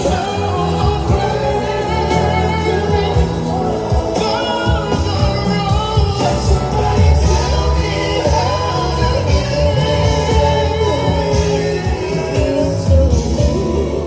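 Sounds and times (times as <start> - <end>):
band accompaniment: 0.0 - 14.0
vocal group singing harmonies: 0.0 - 14.0.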